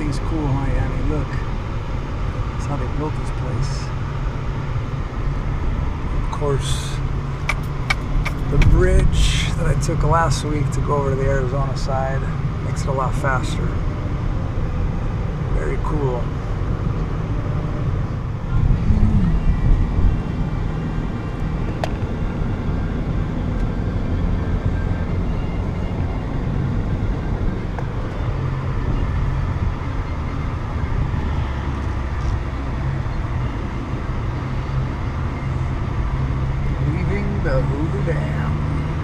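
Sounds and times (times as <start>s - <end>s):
vehicle road noise rumble: 0.0s - 39.0s.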